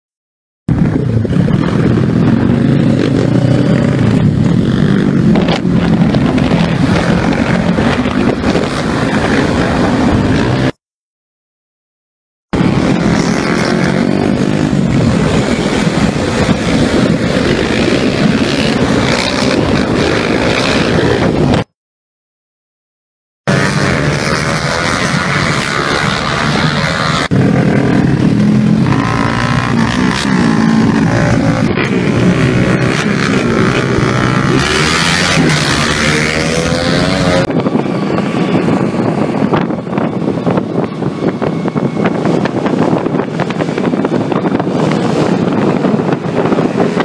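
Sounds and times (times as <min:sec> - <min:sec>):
many motorcycle engines running: 0:00.7 - 0:10.8, 0:12.6 - 0:21.7, 0:23.5 - 0:47.0.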